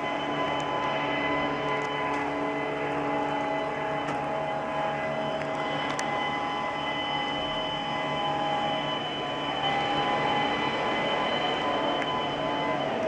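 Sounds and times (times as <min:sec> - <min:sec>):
mechanical drone with steady tones: 0:00.0 - 0:13.0.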